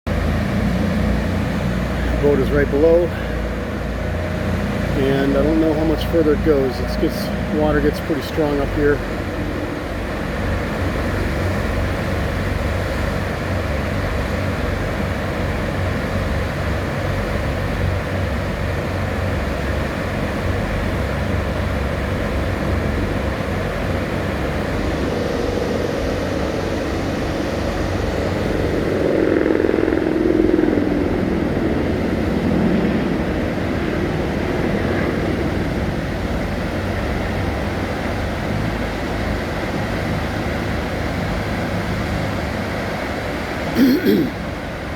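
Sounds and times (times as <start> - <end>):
jet boat engine: 0.1 - 44.9
wind: 0.1 - 44.9.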